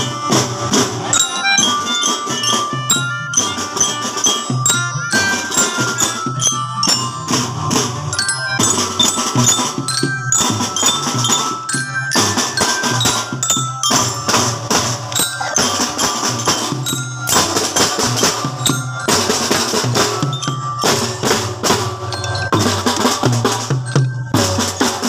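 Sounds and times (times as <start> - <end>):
cymbals: 0.0 - 25.0
glockenspiel melody: 0.0 - 25.0
snare and bass drums: 0.0 - 25.0.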